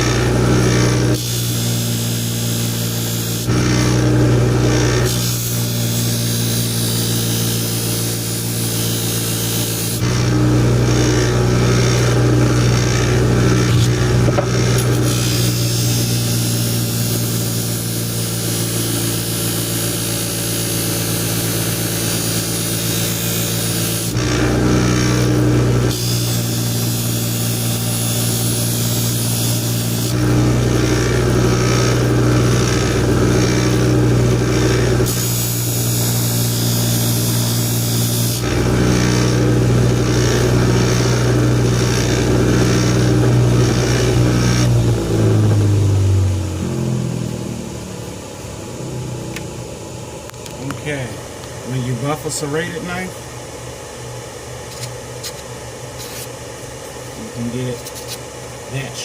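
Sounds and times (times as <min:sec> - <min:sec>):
buffing wheel motor humming: 0:00.0 - 0:58.6.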